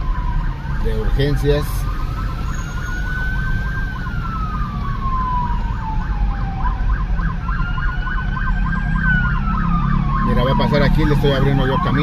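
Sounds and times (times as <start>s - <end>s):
siren wail: 0.0s - 12.0s
siren yelp warbling: 0.0s - 12.0s
traffic rumble: 0.0s - 12.0s.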